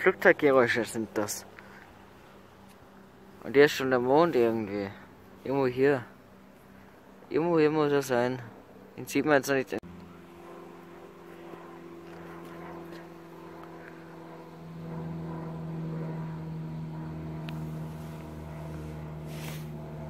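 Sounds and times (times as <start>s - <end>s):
aircraft engine drone: 0.0s - 20.0s.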